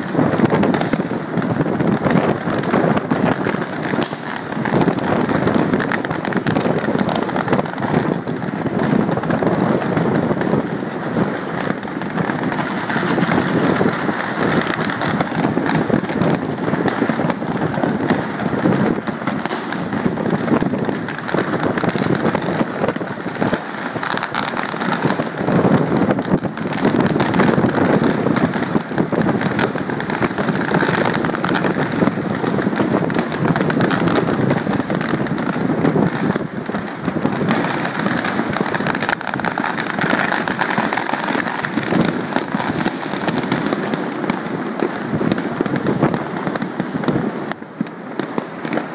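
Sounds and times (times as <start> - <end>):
fireworks crackling and popping: 0.0 - 48.9.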